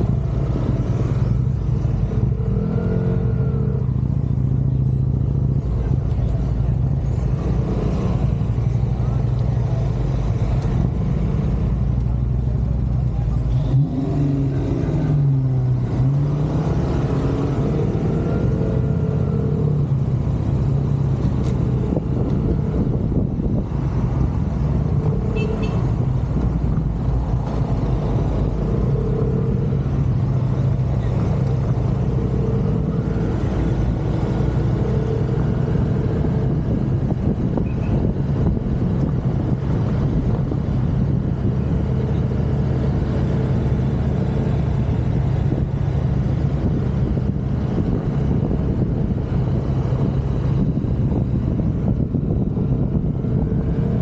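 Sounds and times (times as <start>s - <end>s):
surrounding traffic: 0.0s - 54.0s.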